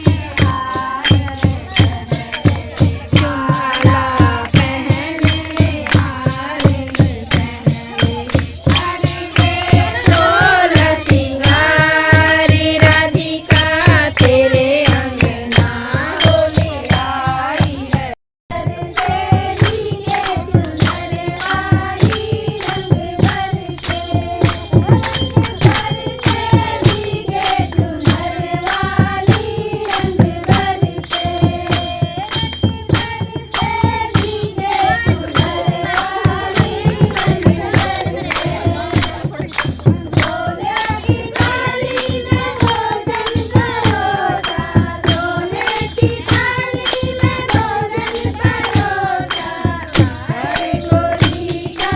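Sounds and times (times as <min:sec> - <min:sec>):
folk singing: 0:00.0 - 0:51.9
jingling percussion beat: 0:00.0 - 0:51.9.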